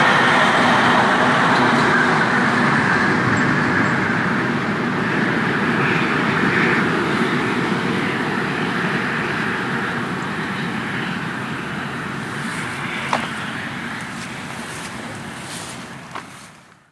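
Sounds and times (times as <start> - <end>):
steam locomotive rumbling: 0.0 - 16.9.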